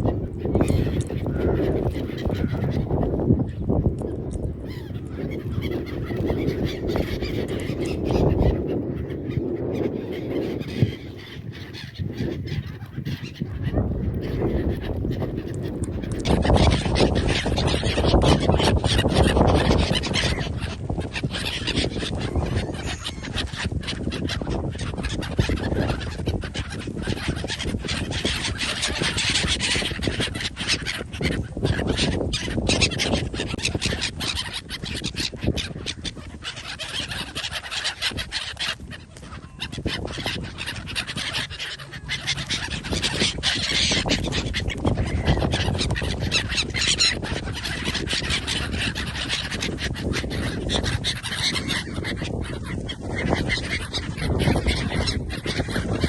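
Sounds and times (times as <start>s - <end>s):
waterfowl honking: 0.4s - 3.2s, 4.6s - 56.0s.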